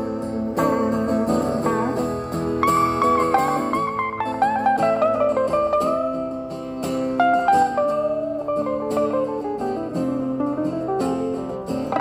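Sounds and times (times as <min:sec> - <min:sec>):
acoustic guitar strumming: 0:00.0 - 0:12.0
bluesy electric guitar lead: 0:00.0 - 0:12.0.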